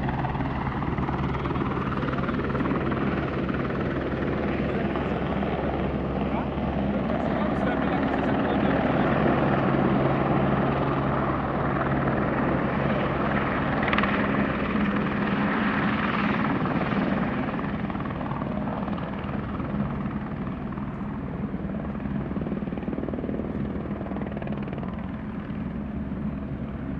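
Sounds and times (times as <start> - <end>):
helicopter hovering: 0.0 - 26.9.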